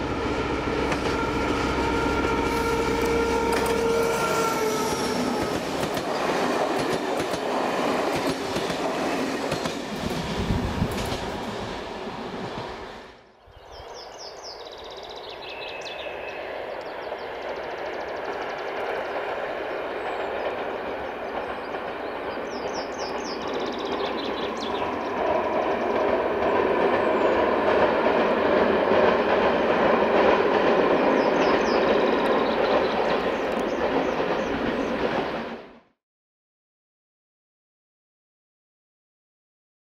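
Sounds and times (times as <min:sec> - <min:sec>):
train wheels rumbling and clacking: 0:00.0 - 0:13.0, 0:16.7 - 0:35.8
distant locomotive engine drone: 0:00.0 - 0:35.9.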